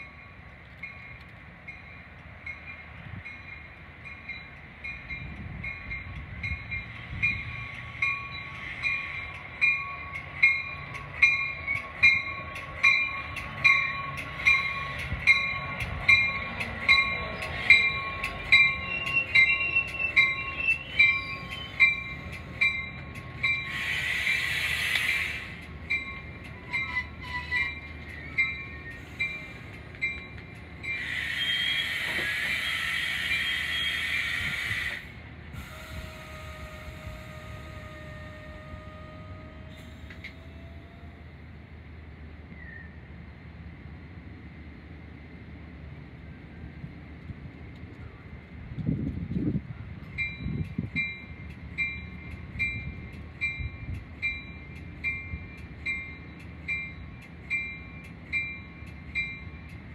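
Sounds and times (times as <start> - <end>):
train warning bell ringing: 0.0 - 34.5, 35.5 - 41.5, 49.9 - 59.9
train wheels rumbling: 0.0 - 59.9.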